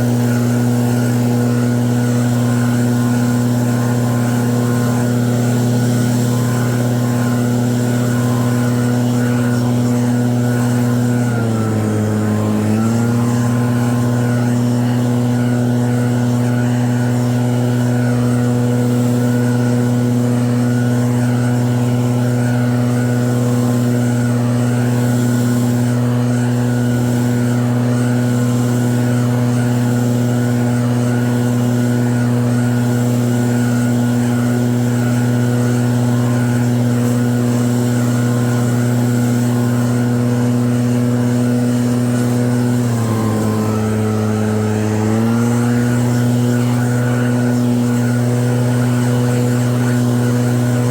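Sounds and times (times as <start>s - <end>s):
snow blower running: 0.0s - 50.9s.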